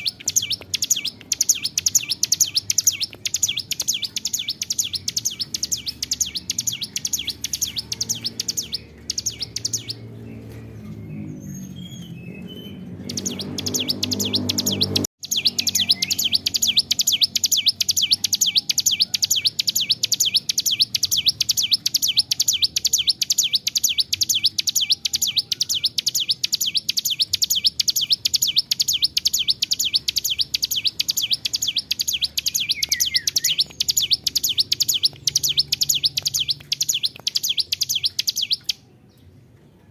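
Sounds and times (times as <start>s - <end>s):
bird high chirps: 0.0s - 39.3s.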